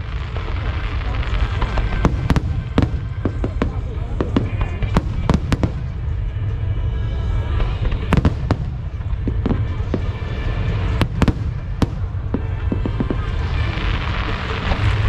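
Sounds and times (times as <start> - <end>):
fireworks bangs: 0.0 - 6.6, 7.3 - 15.0
low rumble: 0.0 - 15.0.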